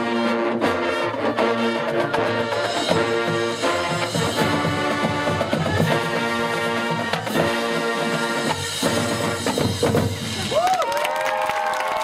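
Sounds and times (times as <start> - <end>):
brass chords: 0.0 - 10.4
drums and percussion: 0.0 - 12.0.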